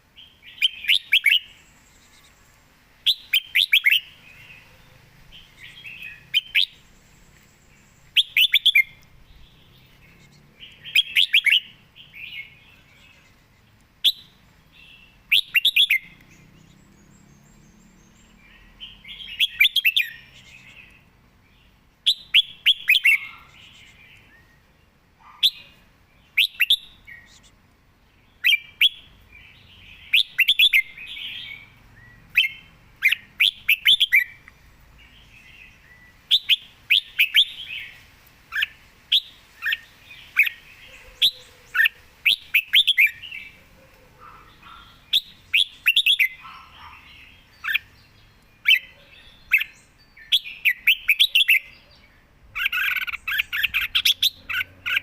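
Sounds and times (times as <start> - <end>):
bulbul singing whistled phrases: 0.1 - 2.4, 3.0 - 4.7, 5.3 - 21.1, 22.0 - 27.5, 28.4 - 43.6, 44.2 - 55.0.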